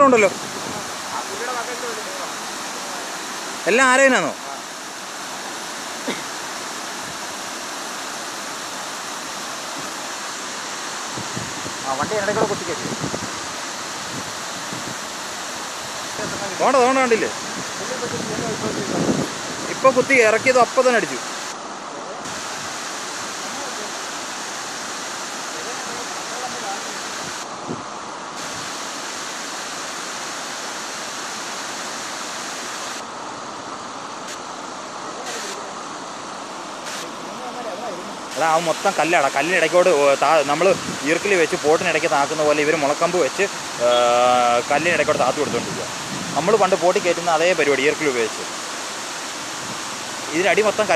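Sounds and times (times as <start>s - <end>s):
river rapids rushing over rocks: 0.0s - 50.9s.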